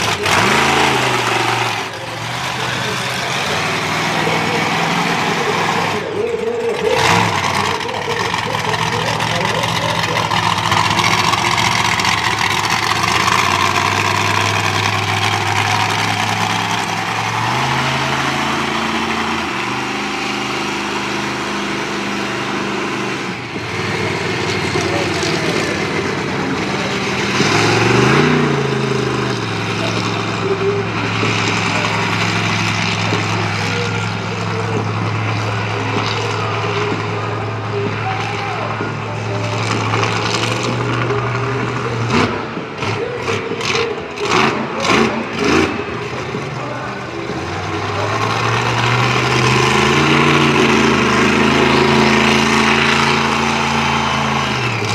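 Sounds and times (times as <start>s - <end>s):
crowd chatter: 0.0s - 54.9s
monster truck engine idling: 0.0s - 54.9s.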